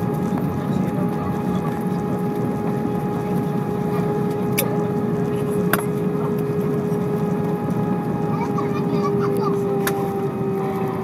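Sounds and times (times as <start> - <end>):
aircraft cabin engine rumble: 0.0 - 11.0
constant hum tone: 0.0 - 11.0.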